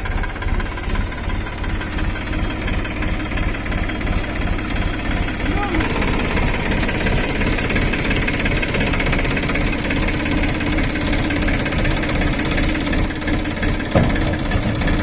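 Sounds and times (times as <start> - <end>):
tractor diesel engine knocking: 0.0 - 15.0.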